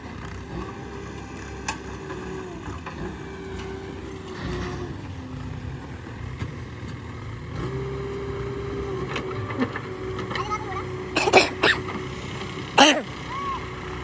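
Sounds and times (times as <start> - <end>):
heavy machinery diesel engine revving: 0.0 - 14.0.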